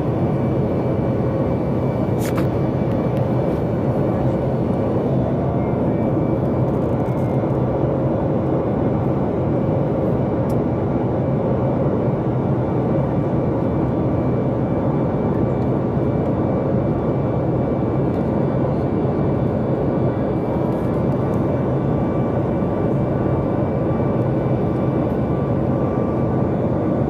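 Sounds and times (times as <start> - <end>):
airplane cabin rumble and rush: 0.0 - 27.0.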